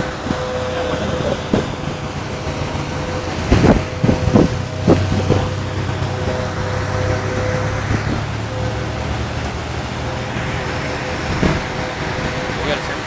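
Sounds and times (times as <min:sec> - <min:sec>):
short bumps: 0:00.0 - 0:13.0
steady low hum: 0:00.0 - 0:13.0
wind buffeting microphone: 0:00.0 - 0:13.0.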